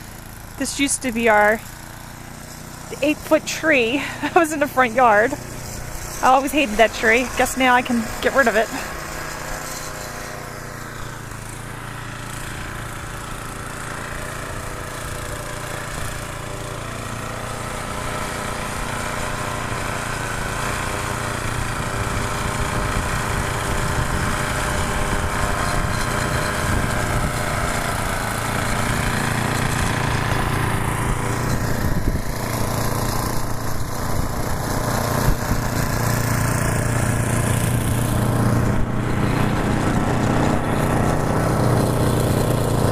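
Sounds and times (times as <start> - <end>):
snow thrower engine running: 0.0 - 42.9.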